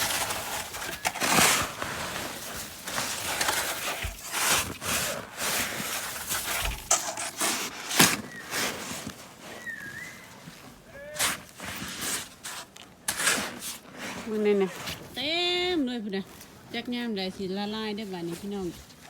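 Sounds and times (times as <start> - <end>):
crunching and scraping in snow: 0.0 - 19.0.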